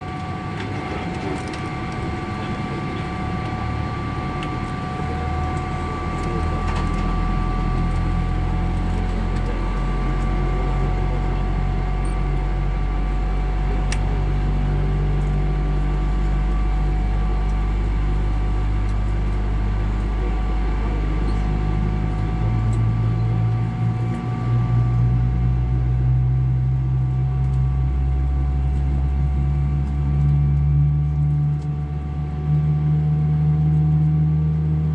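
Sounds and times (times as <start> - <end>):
low jet engine rumble: 0.0 - 34.9
ventilation whine: 0.0 - 34.9.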